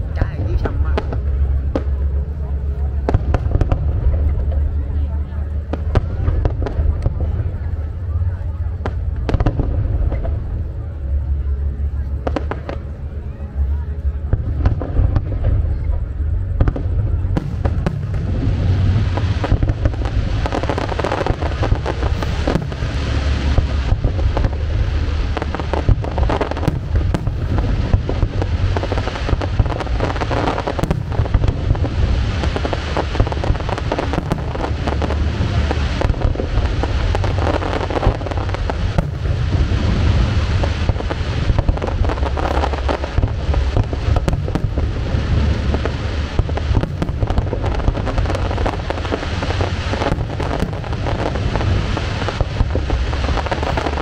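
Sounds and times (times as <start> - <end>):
firework shell bursts and crackles: 0.0 - 10.7, 12.1 - 13.0, 14.2 - 54.0
deep rolling boom: 0.0 - 54.0.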